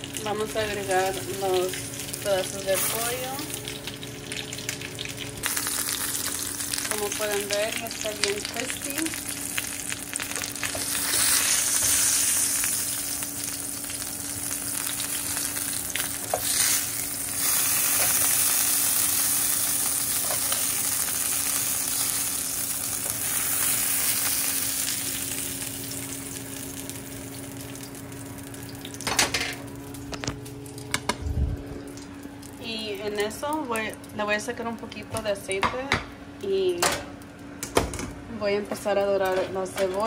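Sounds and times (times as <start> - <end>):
chicken frying in hot oil: 0.0 - 35.2
steady low hum: 0.0 - 40.0.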